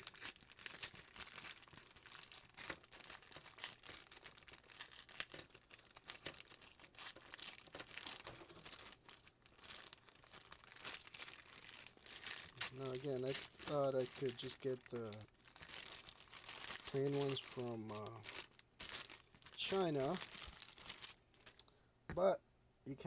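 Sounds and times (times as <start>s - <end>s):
packaging and paper crinkling: 0.0s - 21.6s.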